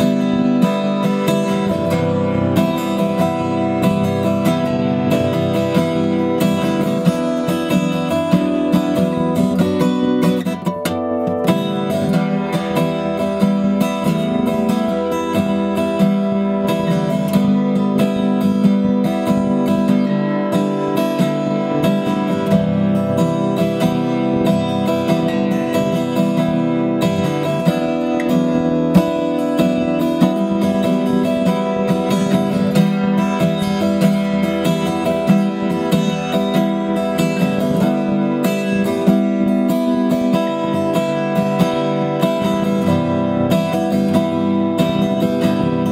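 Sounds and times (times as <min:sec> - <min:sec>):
acoustic guitar strumming chords: 0:00.0 - 0:45.9.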